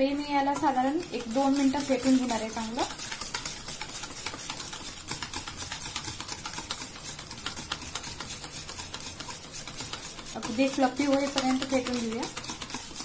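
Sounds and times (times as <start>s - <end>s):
whisk clicking in steel bowl: 0.0s - 13.0s.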